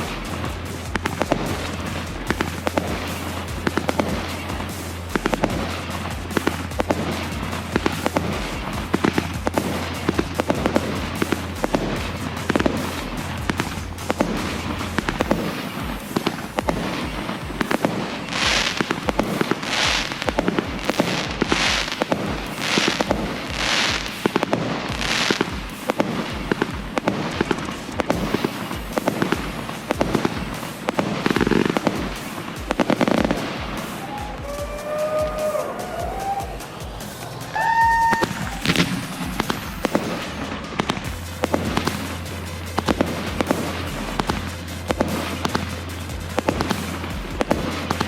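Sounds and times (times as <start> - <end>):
firework hissing whooshes: 0.0 - 48.0
fireworks bangs and crackles: 0.0 - 48.0.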